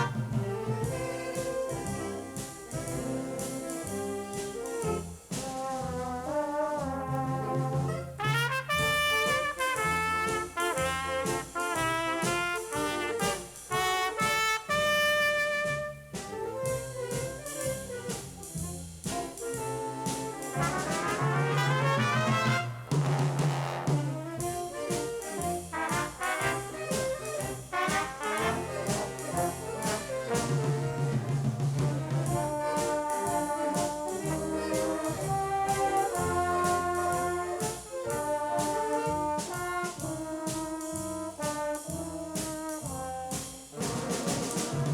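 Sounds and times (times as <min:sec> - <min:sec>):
jazz big band playing: 0:00.0 - 0:44.9.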